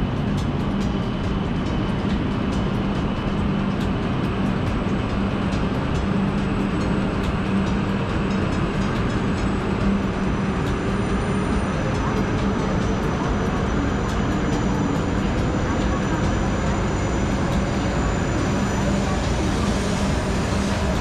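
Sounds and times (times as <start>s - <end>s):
train interior rumble: 0.0s - 21.0s.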